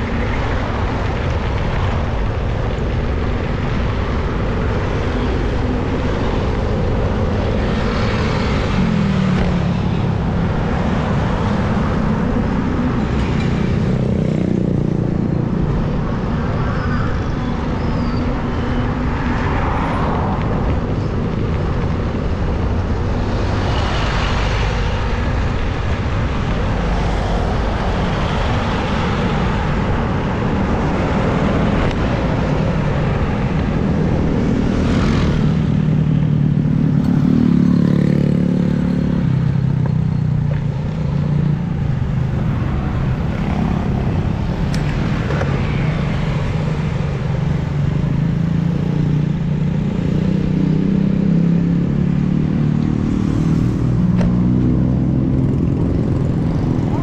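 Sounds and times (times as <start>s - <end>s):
cars and motorcycles passing: 0.0s - 57.0s
low traffic rumble: 0.0s - 57.0s.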